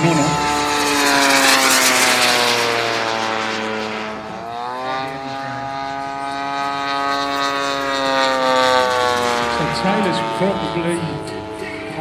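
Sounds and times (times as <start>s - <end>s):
high jet rushing: 0.0s - 12.0s
model plane propeller engine drone: 0.0s - 12.0s.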